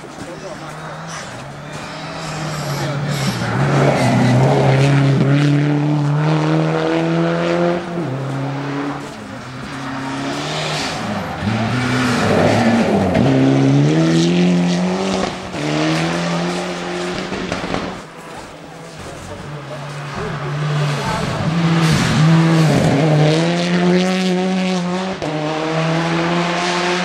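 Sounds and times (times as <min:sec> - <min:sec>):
rally car engine passing: 0:00.0 - 0:27.0.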